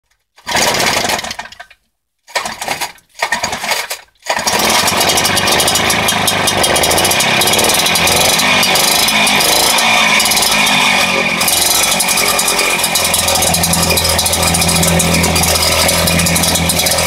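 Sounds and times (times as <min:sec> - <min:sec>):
two-stroke engine starting and running: 0:00.4 - 0:17.0.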